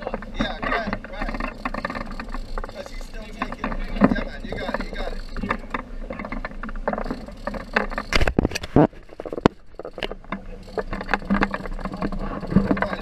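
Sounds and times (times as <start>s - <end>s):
boat engine rumble: 0.0s - 13.0s
sharp knocks and rattles: 0.0s - 13.0s
water rushing along hull: 0.0s - 13.0s.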